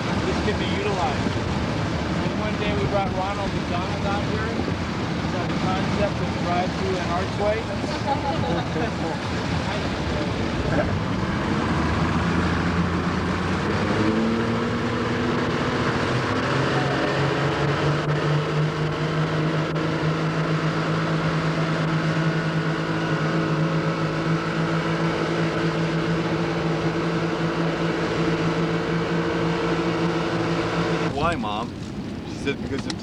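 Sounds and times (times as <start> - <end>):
boat engine speeding up: 0.0 - 33.0
constant rushing noise: 0.0 - 33.0.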